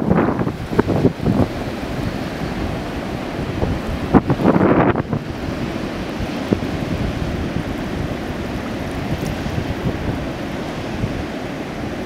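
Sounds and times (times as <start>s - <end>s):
waves washing on shore: 0.0s - 12.0s
wind buffeting microphone: 0.0s - 12.0s.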